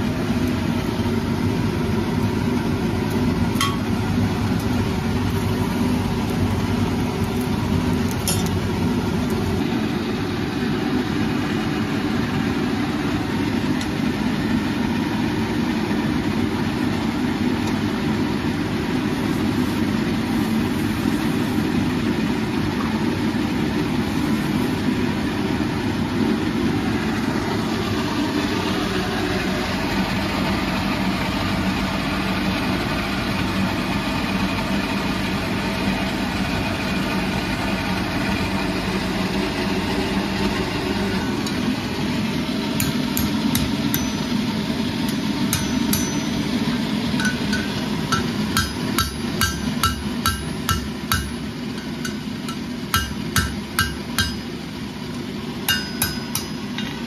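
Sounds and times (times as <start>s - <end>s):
forge air blower drone: 0.0s - 57.0s.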